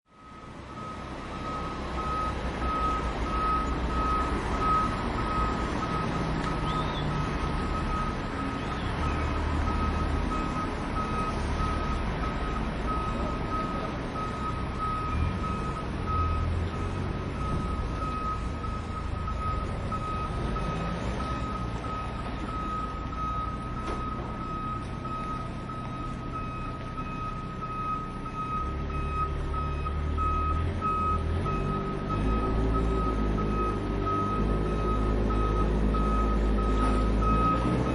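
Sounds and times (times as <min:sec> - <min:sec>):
engine low rumble: 0:00.1 - 0:37.9
reverse alarm beeping: 0:00.1 - 0:37.9.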